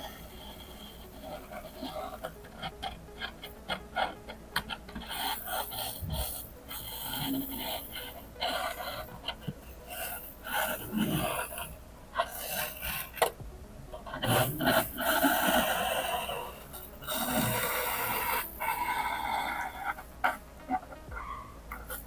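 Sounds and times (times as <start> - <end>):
soldering iron rasping on styrofoam: 0.0 - 13.4, 14.1 - 21.0.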